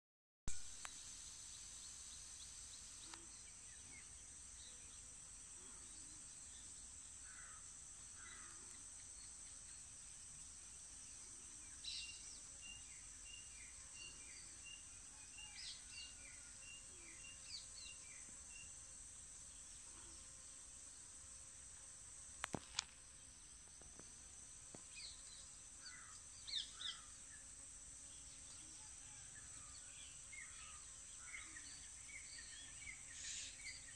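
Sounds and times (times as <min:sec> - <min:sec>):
insects trilling: 0:00.7 - 0:33.9.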